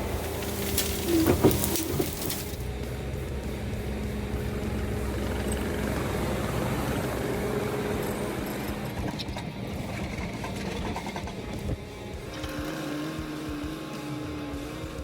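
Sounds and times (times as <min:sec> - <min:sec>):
machine engine running: 0:00.0 - 0:14.7.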